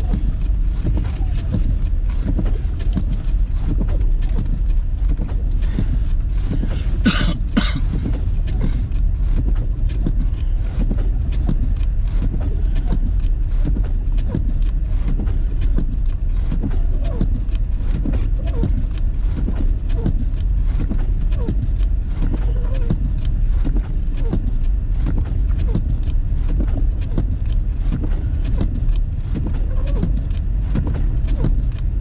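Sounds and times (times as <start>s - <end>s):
car road and engine rumble: 0.0s - 32.0s
small knocks and thumps: 0.0s - 32.0s.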